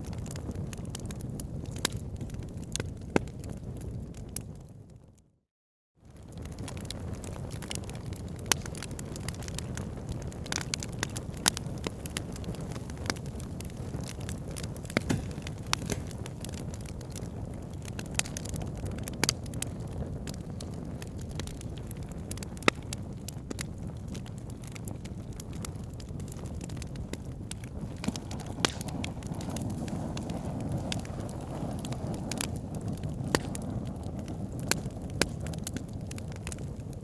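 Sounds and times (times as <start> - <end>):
fire crackling and popping: 0.0 - 5.1, 6.0 - 37.0.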